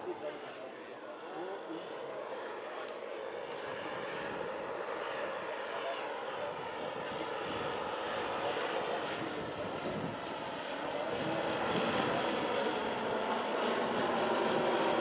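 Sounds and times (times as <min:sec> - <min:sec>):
model aircraft engines droning: 0:00.0 - 0:15.0.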